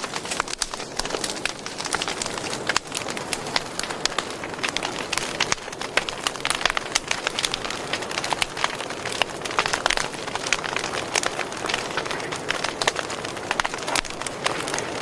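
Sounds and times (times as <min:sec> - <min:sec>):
hiss of flames: 0:00.0 - 0:15.0
wood fire crackling and popping: 0:00.0 - 0:15.0.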